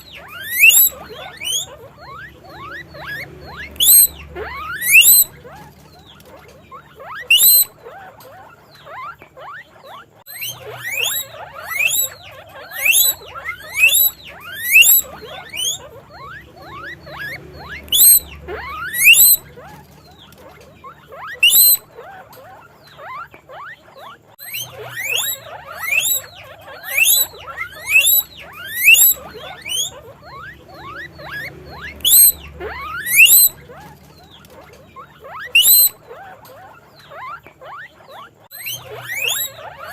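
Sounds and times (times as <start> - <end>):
guinea pig wheeking: 0.0 - 39.9.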